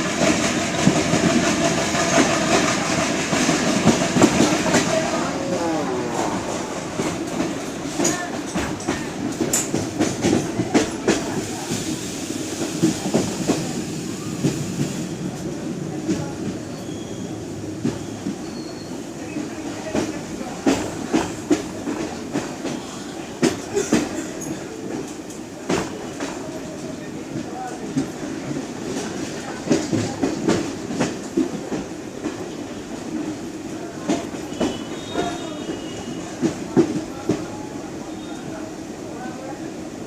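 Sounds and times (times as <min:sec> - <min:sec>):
train low rumble: 0:00.0 - 0:40.0
train wheels clattering on rails: 0:00.0 - 0:40.0.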